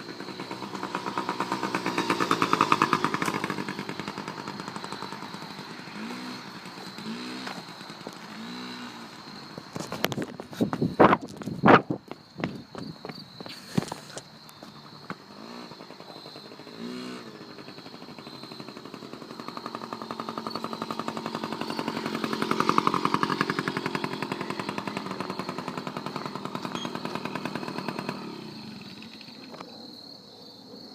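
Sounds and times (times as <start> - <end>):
dirt bike engine running: 0.0 - 29.6.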